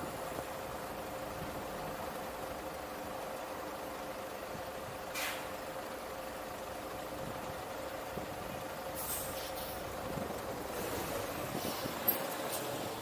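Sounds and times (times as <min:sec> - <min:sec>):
car engine and road hum: 0:00.0 - 0:13.0.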